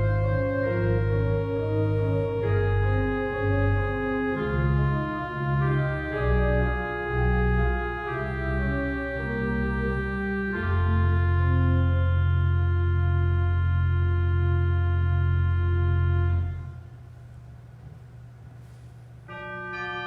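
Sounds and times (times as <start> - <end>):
organ music: 0.0 - 17.1, 19.2 - 20.0.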